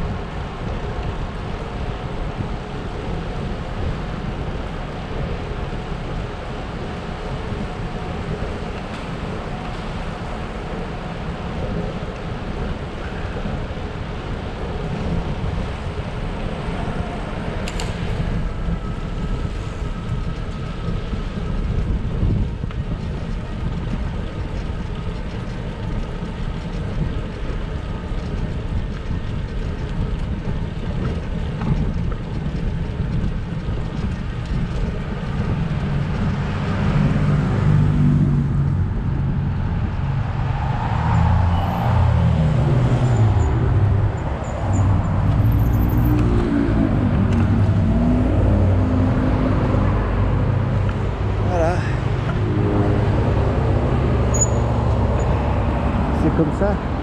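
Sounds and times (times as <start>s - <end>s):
tyres rolling on asphalt: 0.0s - 57.0s
wind buffeting microphone: 0.0s - 57.0s.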